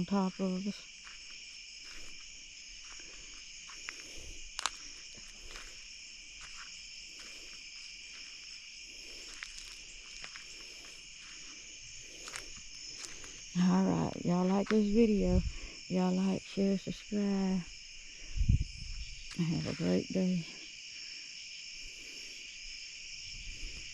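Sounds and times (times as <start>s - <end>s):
crickets and insects trilling: 0.0s - 23.9s.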